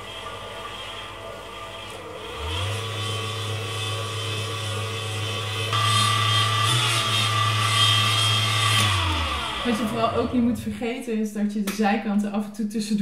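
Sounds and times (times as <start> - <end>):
stand mixer motor whining: 0.0 - 10.8.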